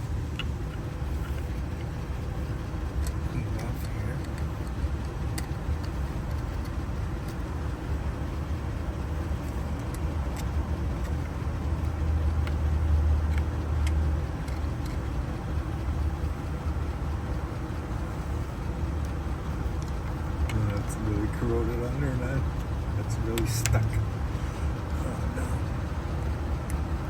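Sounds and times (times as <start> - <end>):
low engine-like rumble: 0.0 - 27.0.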